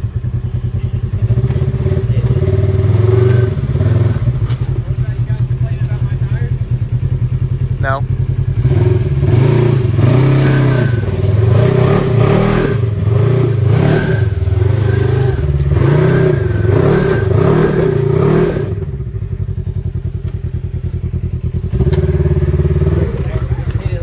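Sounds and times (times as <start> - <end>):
engine revving: 1.1 - 24.0.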